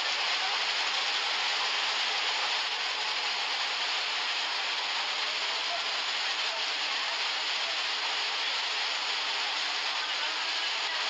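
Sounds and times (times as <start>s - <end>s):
torrential rain hissing: 0.0s - 11.0s.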